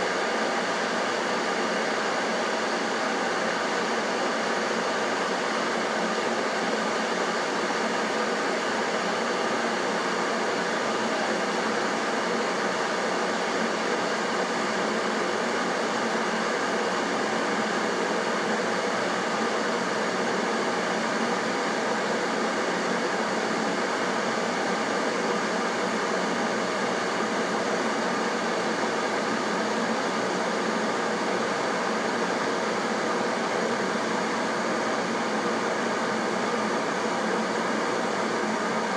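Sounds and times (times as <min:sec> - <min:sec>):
electric kettle heating water: 0:00.0 - 0:38.9.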